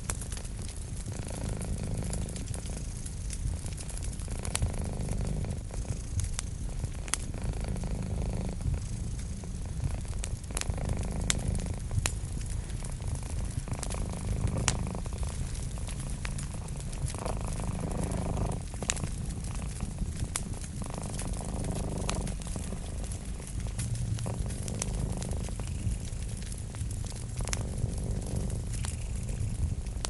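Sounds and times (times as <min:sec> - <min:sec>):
cat purring: 0:00.0 - 0:30.0
wood fire crackling and popping: 0:00.0 - 0:30.0.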